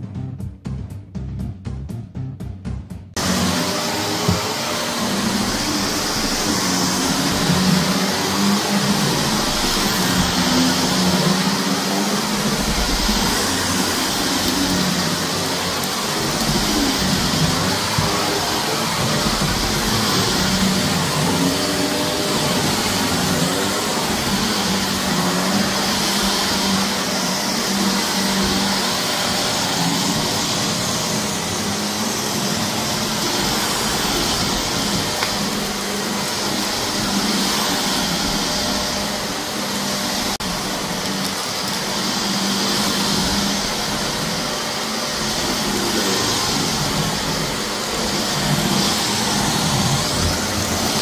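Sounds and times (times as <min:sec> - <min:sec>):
vacuum cleaner running on carpet: 0:03.2 - 0:51.0.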